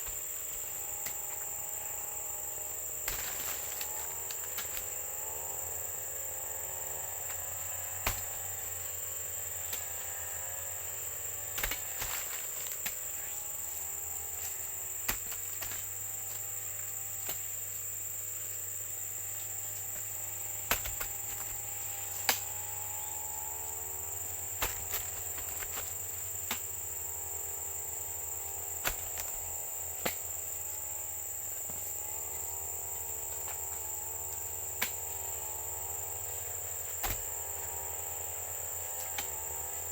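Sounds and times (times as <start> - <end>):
high-pitched insect drone: 0.0 - 14.9, 15.7 - 39.9.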